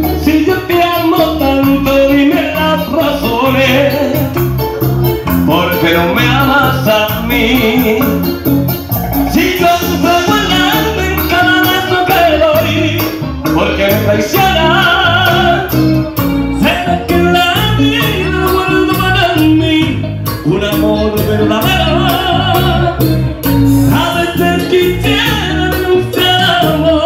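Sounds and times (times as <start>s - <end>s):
man singing into a microphone: 0.0s - 27.0s
stepping bass line: 0.0s - 27.0s.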